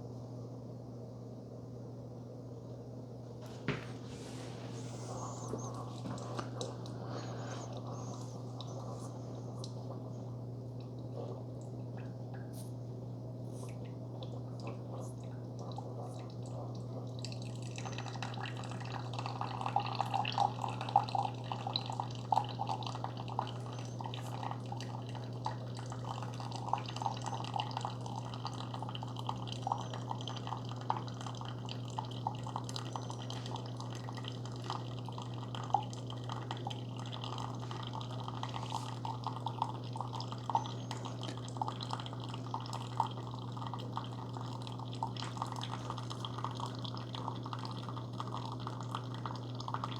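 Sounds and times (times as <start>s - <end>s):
coffee maker humming: 2.8s - 49.9s
coffee dripping into mug: 5.1s - 49.9s.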